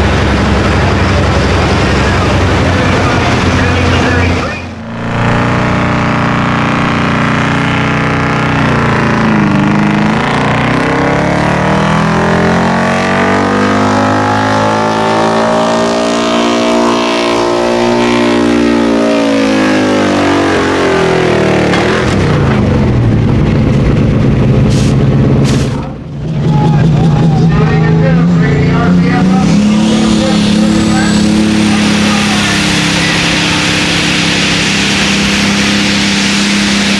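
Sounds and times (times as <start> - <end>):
tractor engine running at high revs: 0.0 - 36.9.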